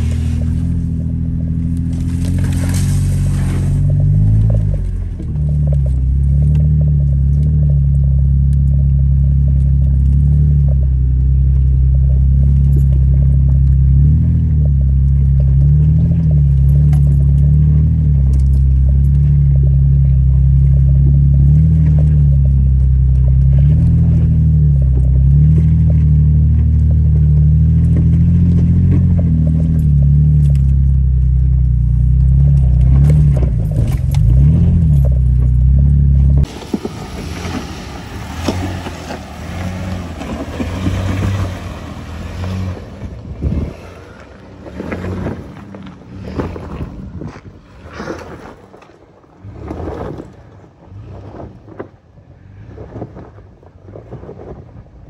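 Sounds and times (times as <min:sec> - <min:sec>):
car engine under load: 0:00.0 - 0:55.0
vehicle rattling over bumps: 0:00.0 - 0:55.0.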